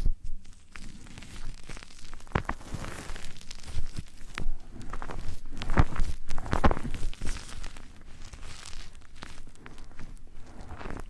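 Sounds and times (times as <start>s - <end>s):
rubbing and scratching on microphone: 0.0s - 11.0s.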